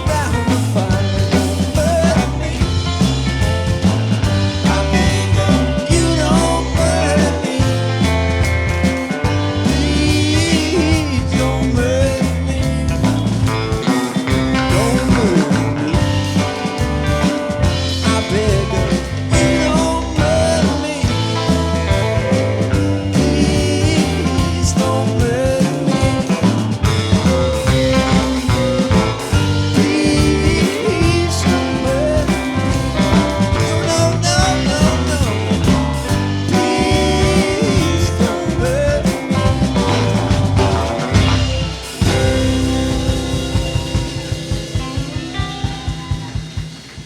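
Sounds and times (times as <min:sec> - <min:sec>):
pitch-bending melody line: 0:00.0 - 0:46.6
live rock band playing: 0:00.0 - 0:47.0.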